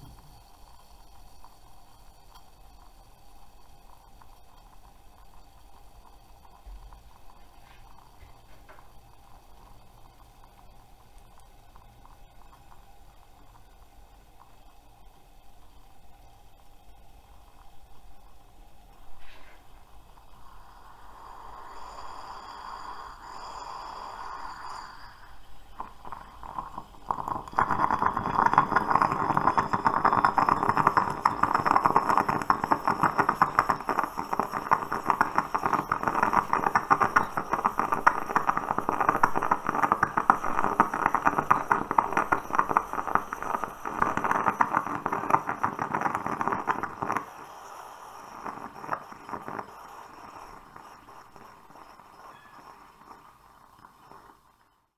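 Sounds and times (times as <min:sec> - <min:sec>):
moka pot sputtering: 0:00.0 - 0:54.9.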